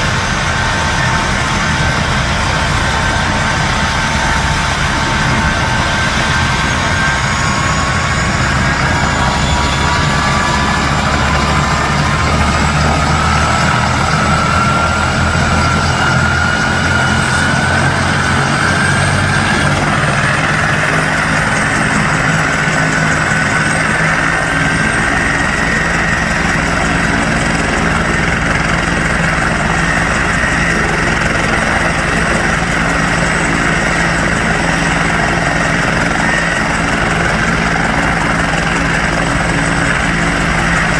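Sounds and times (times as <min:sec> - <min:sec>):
helicopter low rumble: 0:00.0 - 0:40.9
helicopter turbine whine: 0:00.0 - 0:40.9.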